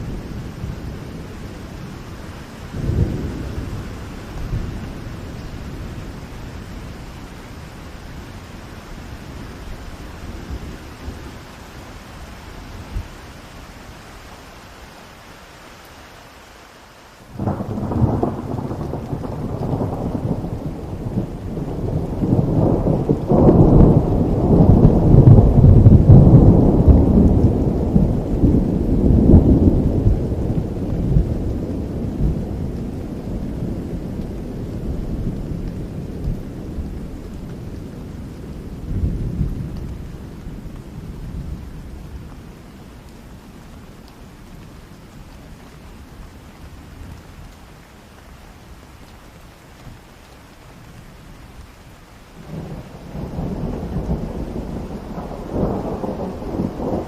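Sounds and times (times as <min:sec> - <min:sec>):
thunder rumbling: 0:00.0 - 0:13.5, 0:17.3 - 0:47.2, 0:52.3 - 0:57.0
rain: 0:00.0 - 0:57.0.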